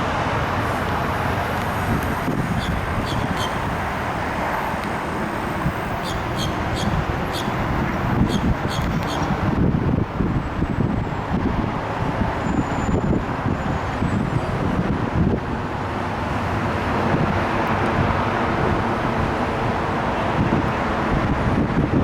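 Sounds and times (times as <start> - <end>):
train rumble and rail noise: 0.0 - 22.0.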